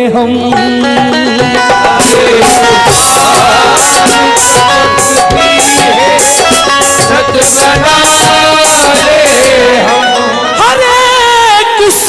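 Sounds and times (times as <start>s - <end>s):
steady percussion beat: 0.5s - 10.7s
melodic instrumental passage: 0.5s - 11.2s.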